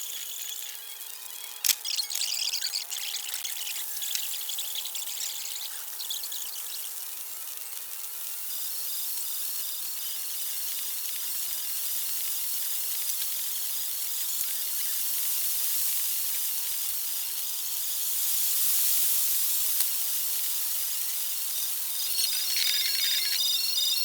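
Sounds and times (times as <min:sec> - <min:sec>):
night insect chorus hiss: 0:03.8 - 0:24.0.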